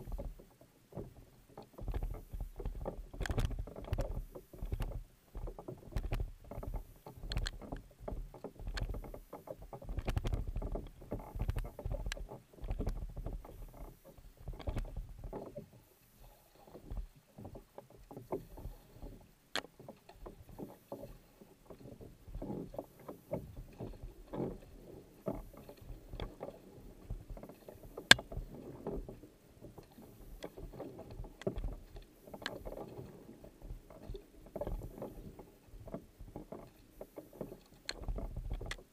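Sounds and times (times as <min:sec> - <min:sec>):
kayak paddle splashing: 0:00.0 - 0:38.9
water lapping at hull: 0:00.0 - 0:38.9.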